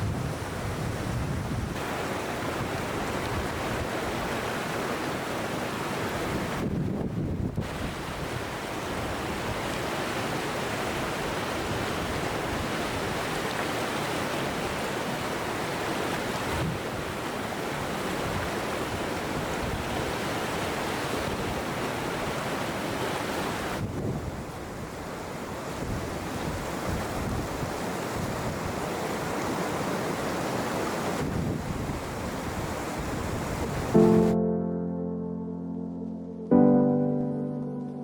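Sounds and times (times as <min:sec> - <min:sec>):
river water rushing: 0:00.0 - 0:06.8, 0:07.6 - 0:34.4.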